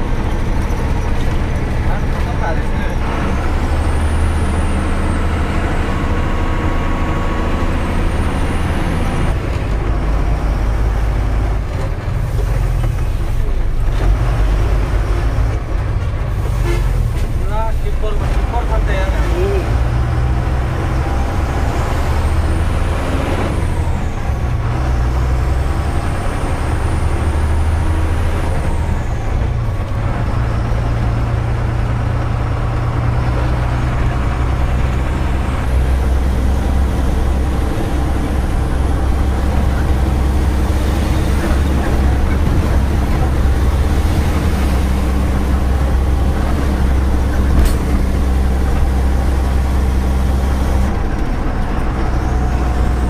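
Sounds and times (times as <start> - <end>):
truck diesel engine droning: 0.0 - 53.0.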